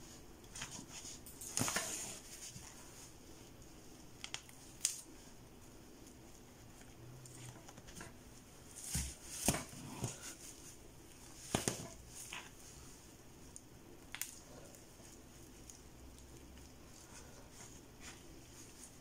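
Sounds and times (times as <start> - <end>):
rustling of hair and thread: 0.0 - 19.0.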